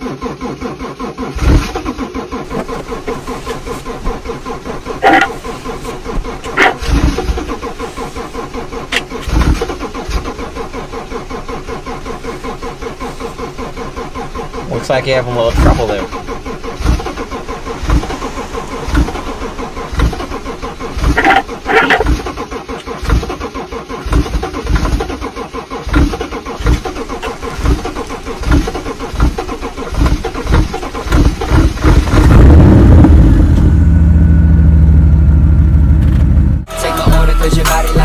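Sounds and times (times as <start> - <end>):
car engine cranking on starter: 0.0 - 38.0
car engine running loudly: 0.0 - 38.0.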